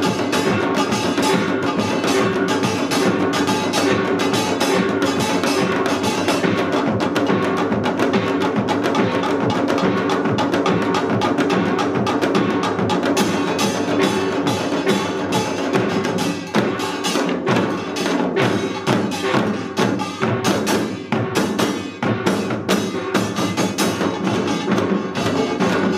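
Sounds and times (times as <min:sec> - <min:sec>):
hand drums beating: 0:00.0 - 0:25.9.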